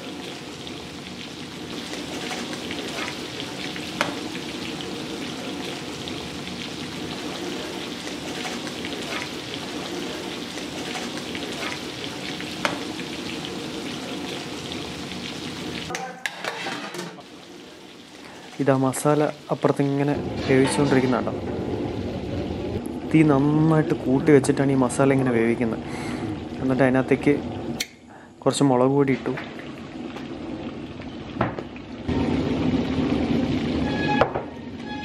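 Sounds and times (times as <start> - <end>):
chicken deep-frying in oil: 0.0 - 35.0.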